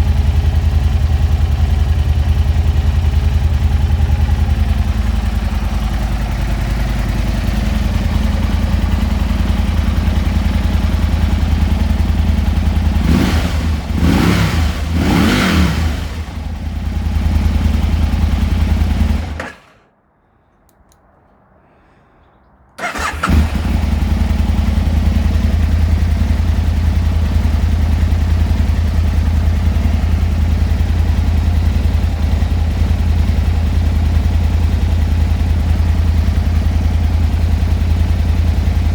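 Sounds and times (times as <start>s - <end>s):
motorcycle engine idling and revving: 0.0s - 19.9s, 22.8s - 38.9s.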